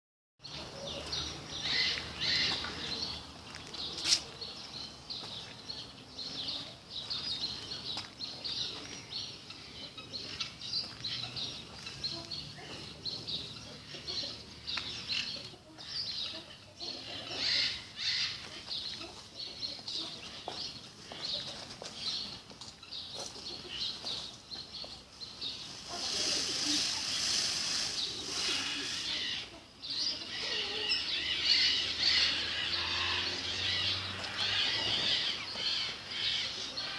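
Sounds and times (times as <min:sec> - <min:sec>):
small birds chirping: 0:00.4 - 0:36.9.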